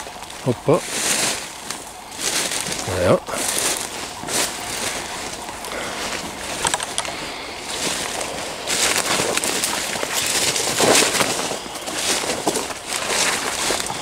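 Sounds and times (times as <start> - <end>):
rustling through leaf litter: 0.0 - 14.0
twigs cracking: 0.0 - 14.0.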